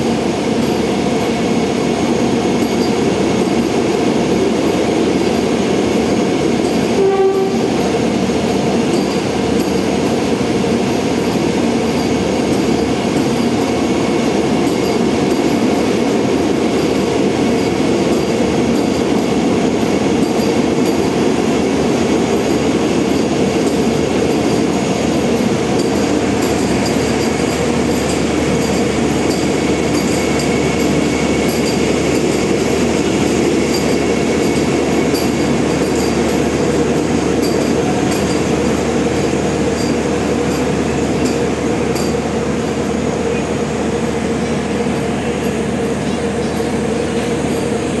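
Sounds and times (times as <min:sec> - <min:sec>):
train rumble: 0:00.0 - 0:48.0.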